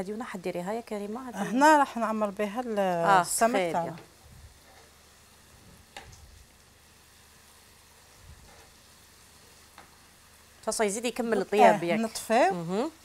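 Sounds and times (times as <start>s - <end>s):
faint vegetables sizzling: 0.0s - 13.0s.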